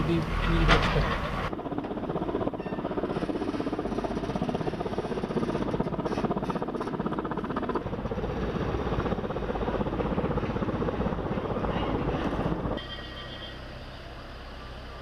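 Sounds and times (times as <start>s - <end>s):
helicopter rotor beating: 0.0s - 12.8s.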